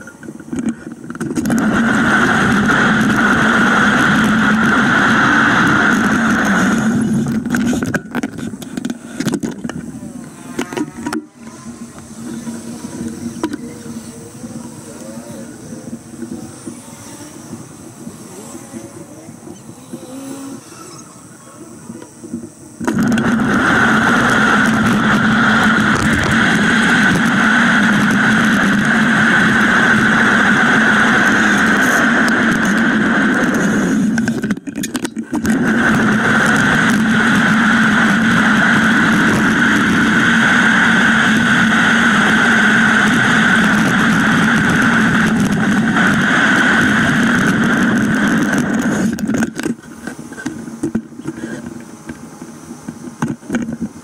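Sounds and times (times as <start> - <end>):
bicycle road noise: 0.0 - 54.0
wind on microphone: 0.0 - 54.0.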